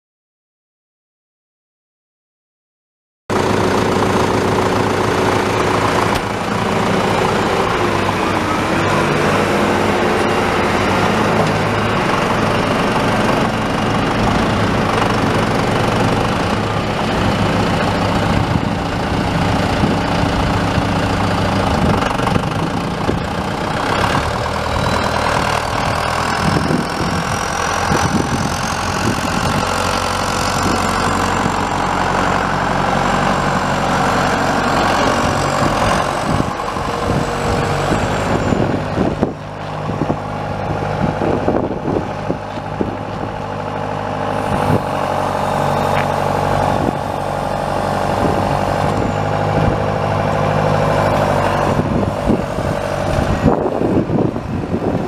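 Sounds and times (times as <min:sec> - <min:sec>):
tractor diesel engine running: 0:03.3 - 0:55.0.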